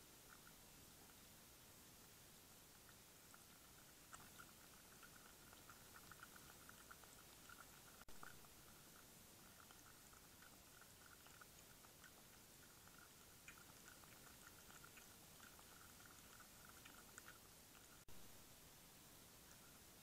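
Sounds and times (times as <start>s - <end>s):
steady hiss: 0.0s - 20.0s
cat chewing and crunching: 0.1s - 1.3s, 2.7s - 18.2s.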